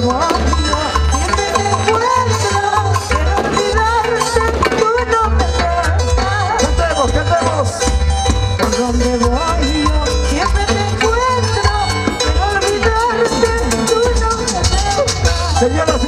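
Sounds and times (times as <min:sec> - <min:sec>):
woman singing: 0:00.0 - 0:06.8, 0:08.7 - 0:15.4
folk band with bass beat: 0:00.0 - 0:16.0.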